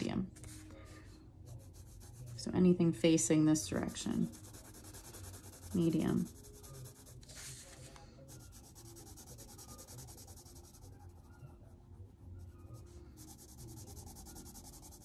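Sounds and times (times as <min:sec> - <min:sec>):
pencil scratching on paper: 0:01.5 - 0:02.5, 0:03.6 - 0:15.0.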